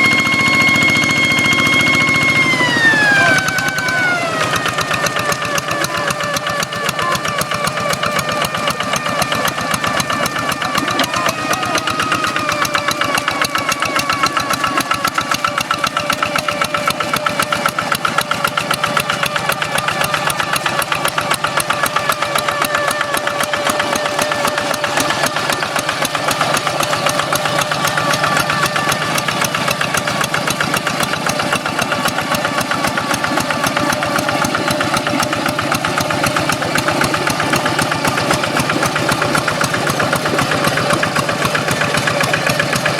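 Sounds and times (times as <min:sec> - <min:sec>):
diesel engine running: 0:00.0 - 0:42.9
whining engine tone: 0:00.0 - 0:42.9.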